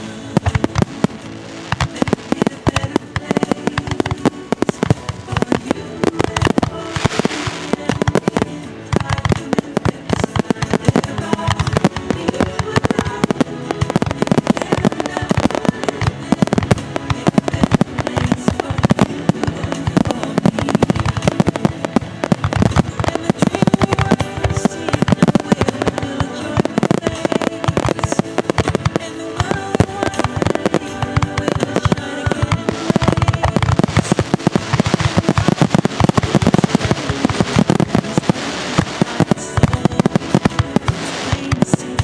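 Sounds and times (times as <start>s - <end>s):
fireworks bursting with crackling: 0.0s - 42.0s
music: 0.0s - 42.0s.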